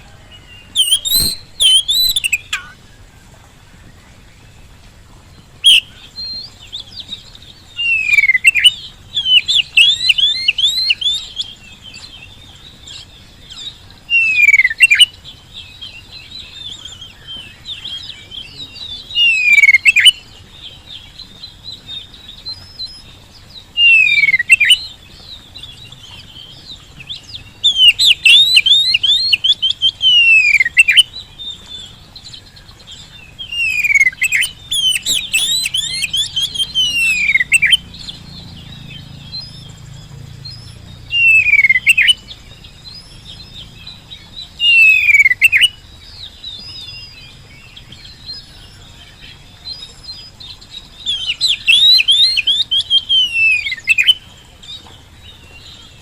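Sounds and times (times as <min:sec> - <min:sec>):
bird twittering: 0:00.0 - 0:03.2, 0:03.9 - 0:56.0
songbird singing: 0:00.0 - 0:56.0.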